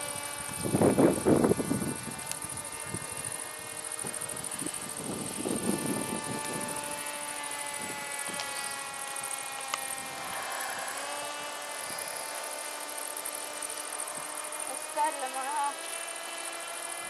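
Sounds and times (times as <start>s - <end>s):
model aircraft motor whine: 0.0s - 17.0s.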